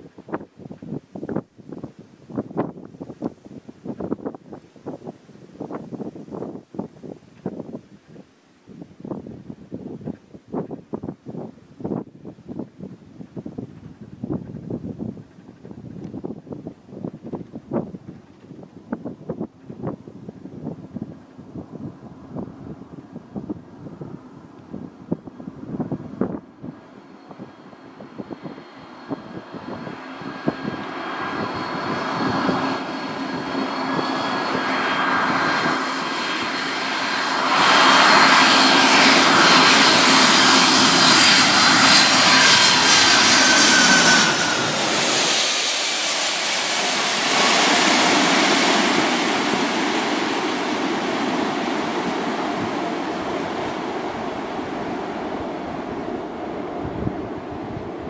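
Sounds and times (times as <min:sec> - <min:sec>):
jet engine roar and fan whine: 0:00.0 - 0:58.0.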